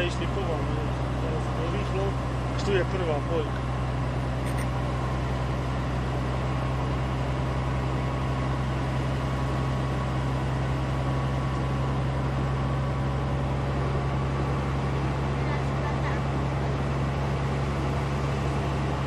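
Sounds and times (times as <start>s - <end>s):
motor droning with whine: 0.0s - 19.0s.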